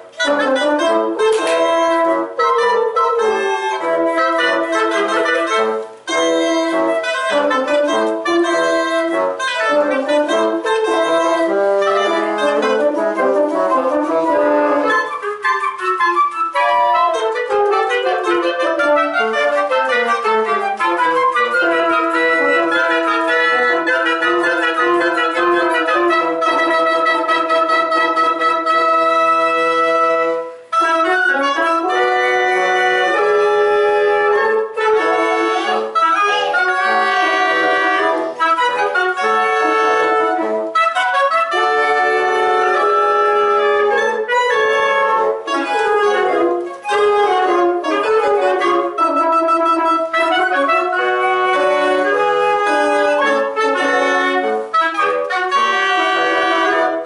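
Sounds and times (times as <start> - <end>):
woodwind quintet playing a march: 0.0 - 57.0.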